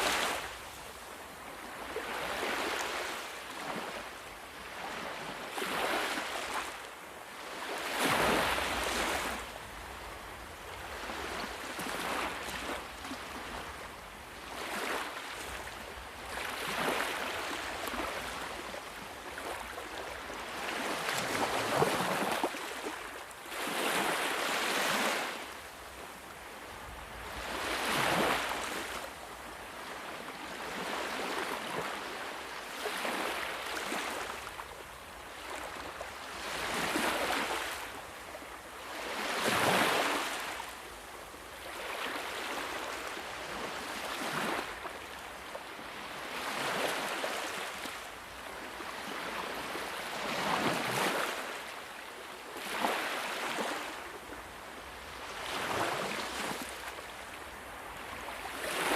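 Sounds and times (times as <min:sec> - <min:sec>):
sea waves breaking on shore: 0:00.0 - 0:58.9.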